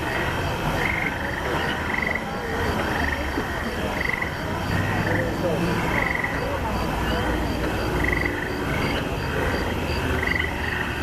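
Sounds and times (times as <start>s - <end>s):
street and crowd noise: 0.0s - 11.0s
trilled frog-like croaks: 0.0s - 11.0s.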